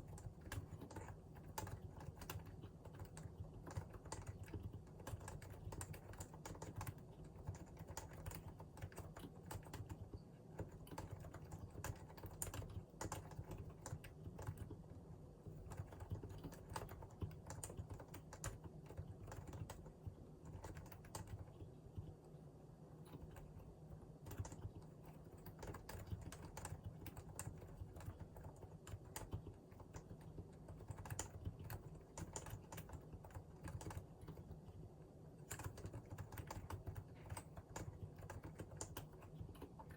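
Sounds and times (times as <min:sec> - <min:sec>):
keyboard typing: 0:00.0 - 0:14.8, 0:15.4 - 0:22.2, 0:23.0 - 0:34.8, 0:35.4 - 0:39.9.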